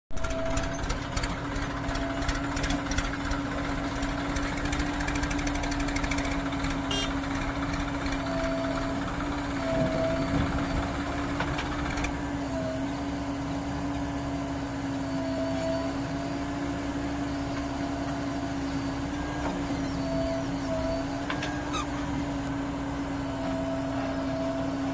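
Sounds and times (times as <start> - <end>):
diesel engine humming: 0.1 - 24.9.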